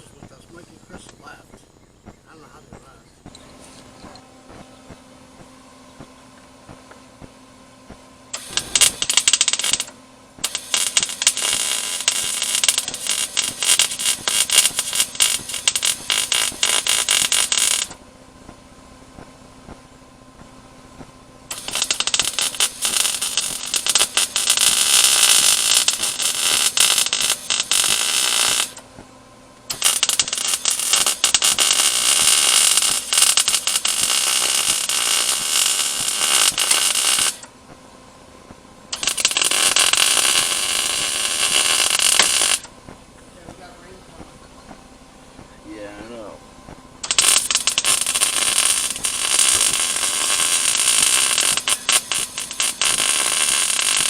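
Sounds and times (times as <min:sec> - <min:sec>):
faint steady hum: 0:00.0 - 0:54.0
welder crackling and sputtering: 0:00.0 - 0:54.0.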